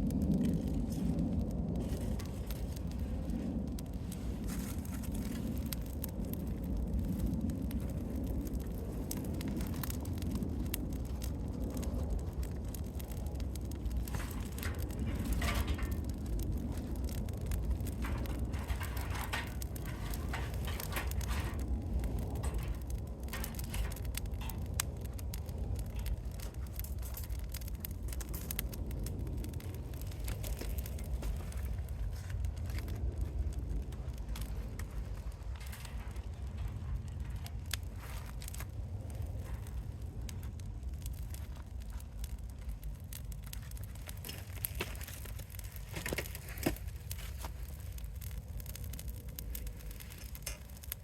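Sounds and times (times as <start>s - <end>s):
campfire snaps and pops: 0.0s - 51.0s
fire low rumble: 0.0s - 51.0s.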